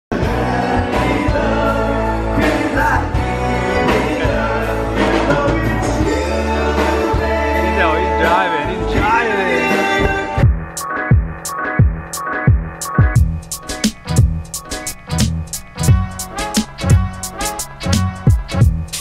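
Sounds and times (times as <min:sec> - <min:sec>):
bass line: 0:00.1 - 0:19.0
drums: 0:00.1 - 0:19.0.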